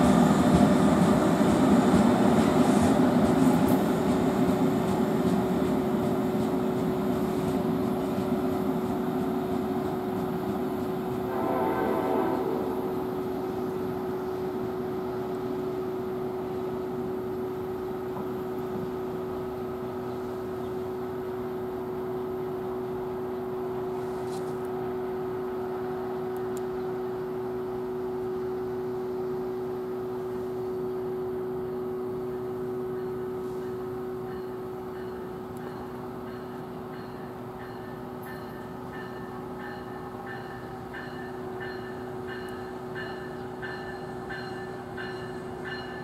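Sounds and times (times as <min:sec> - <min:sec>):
train electrical hum: 0:00.0 - 0:46.0.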